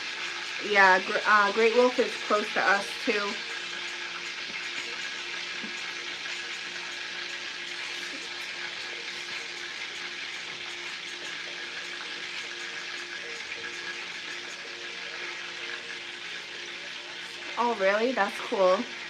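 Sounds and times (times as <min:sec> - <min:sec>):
chicken sizzling in a frying pan: 0:00.0 - 0:19.0.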